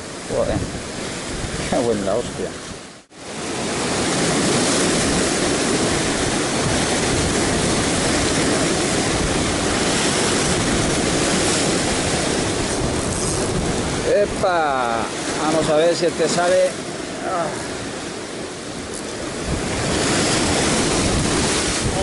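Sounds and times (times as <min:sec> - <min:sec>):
rough sea breaking against rocks: 0:00.0 - 0:22.0.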